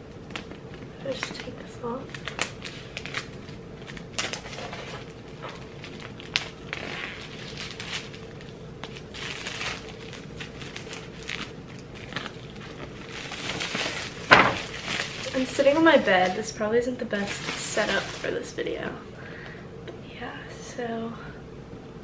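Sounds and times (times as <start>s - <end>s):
plastic wrap crinkling: 0.0s - 19.1s.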